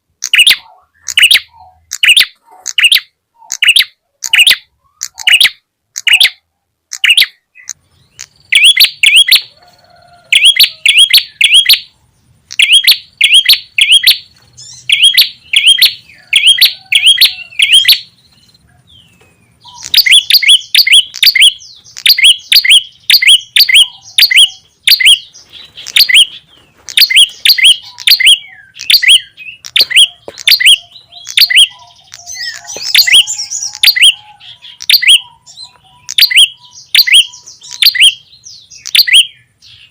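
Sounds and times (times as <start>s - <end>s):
sharp high bird chirps: 0.2s - 39.9s.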